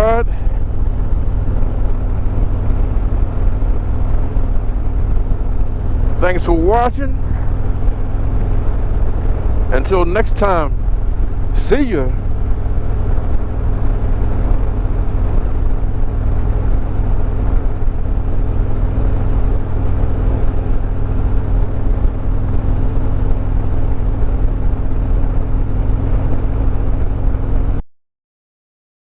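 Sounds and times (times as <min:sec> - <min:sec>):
motorcycle engine cruising: 0:00.0 - 0:27.8
wind and road noise: 0:00.0 - 0:27.8.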